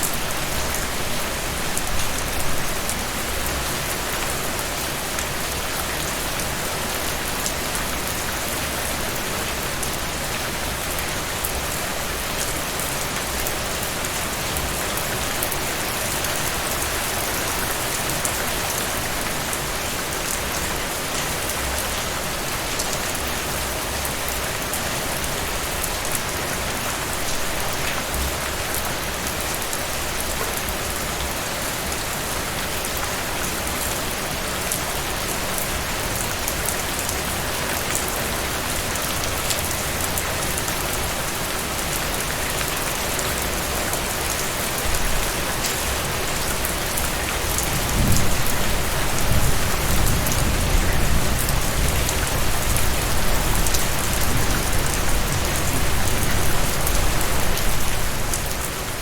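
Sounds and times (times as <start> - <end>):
steady rain on a surface: 0.0 - 59.0.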